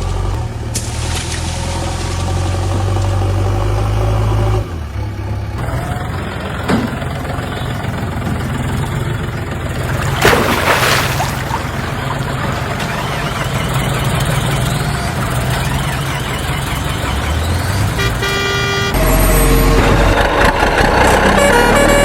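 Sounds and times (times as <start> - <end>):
heavy vehicle engine running: 0.0 - 22.0.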